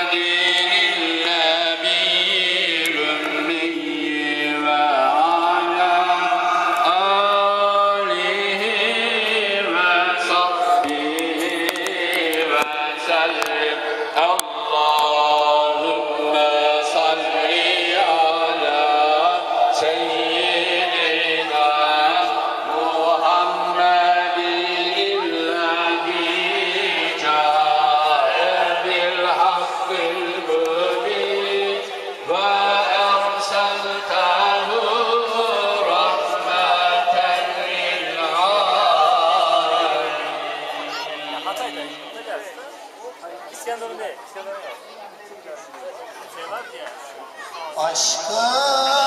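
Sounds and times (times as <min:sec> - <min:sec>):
man chanting hymn: 0:00.0 - 0:42.7, 0:47.8 - 0:49.0.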